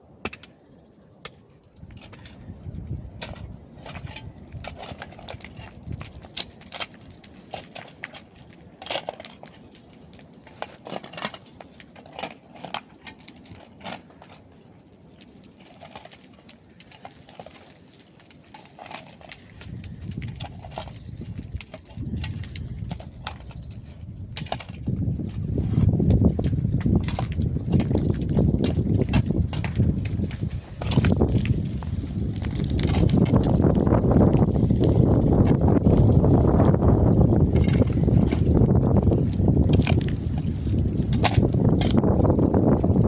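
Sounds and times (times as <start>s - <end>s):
hand tools digging stone and rubble: 0.2s - 0.6s, 1.2s - 43.0s.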